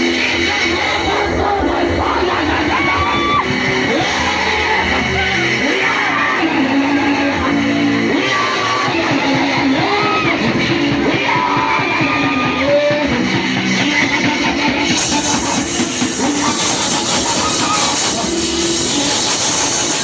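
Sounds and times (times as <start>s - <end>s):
guitar: 0.0s - 20.0s
voices singing: 0.0s - 20.0s.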